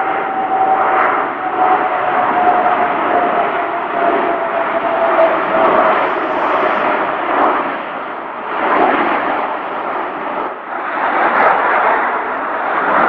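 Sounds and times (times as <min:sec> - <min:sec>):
military jet engines roaring: 0:00.0 - 0:13.0.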